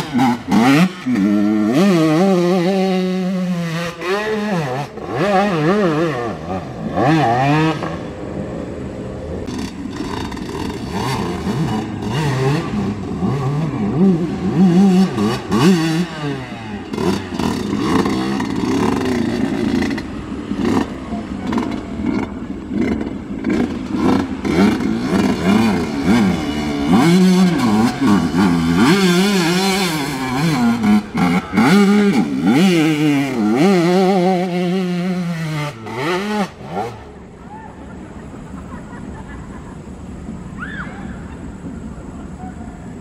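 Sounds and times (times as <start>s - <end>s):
dirt bike engine revving: 0.0s - 37.4s.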